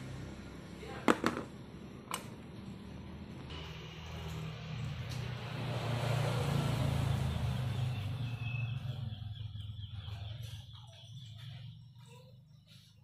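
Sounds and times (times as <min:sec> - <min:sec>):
vehicle engine passing by: 0:00.0 - 0:01.0, 0:02.9 - 0:12.9.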